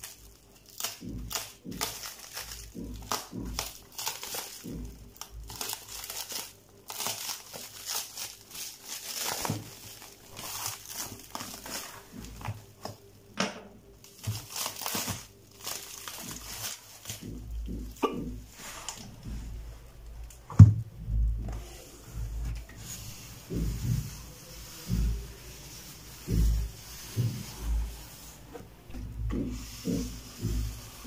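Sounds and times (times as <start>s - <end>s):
plastic shrink wrap crinkling: 0.0s - 13.1s, 13.9s - 20.4s, 22.6s - 31.0s.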